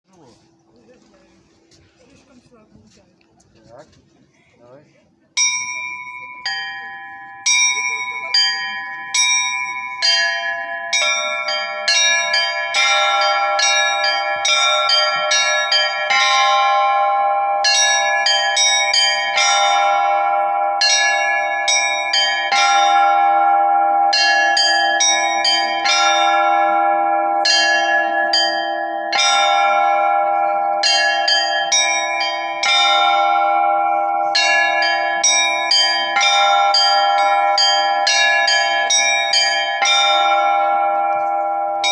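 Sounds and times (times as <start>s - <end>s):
deep bell ringing: 5.4s - 41.9s
small church bells pealing: 5.4s - 41.9s.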